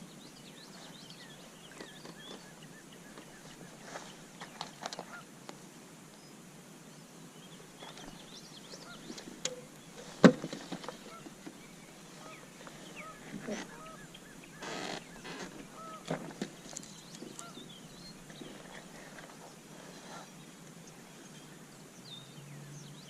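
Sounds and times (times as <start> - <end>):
birds calling: 0.0 - 5.3, 6.1 - 23.0.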